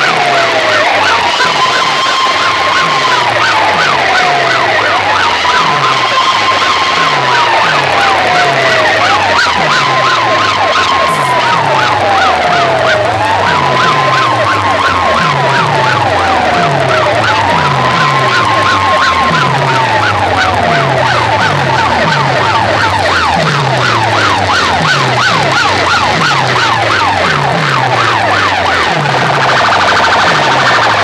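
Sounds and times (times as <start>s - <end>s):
fast warbling chirp: 0.0s - 31.0s
hard-bass dance track: 0.0s - 31.0s
wailing siren tone: 0.0s - 31.0s.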